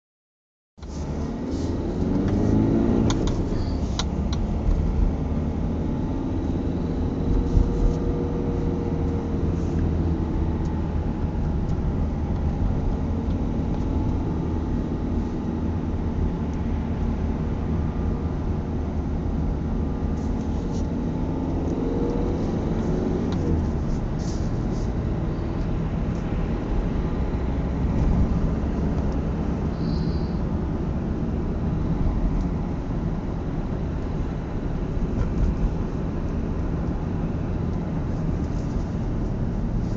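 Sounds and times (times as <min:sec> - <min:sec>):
car engine and road rumble: 0:00.8 - 0:39.9.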